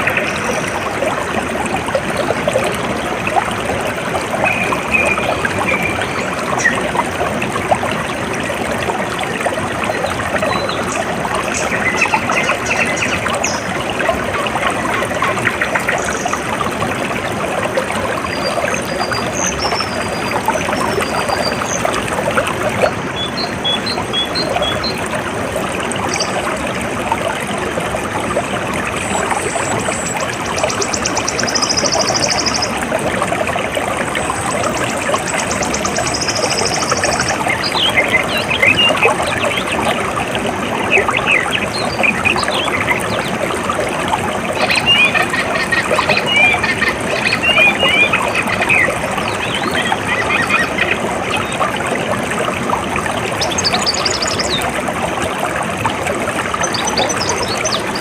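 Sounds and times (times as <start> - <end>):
water trickling and flowing: 0.0 - 58.0.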